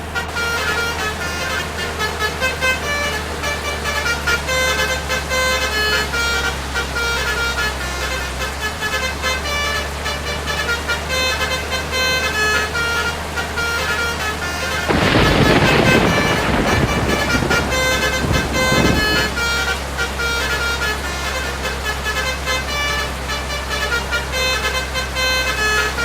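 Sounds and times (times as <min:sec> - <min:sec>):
melody horn playing a tune: 0:00.0 - 0:26.0.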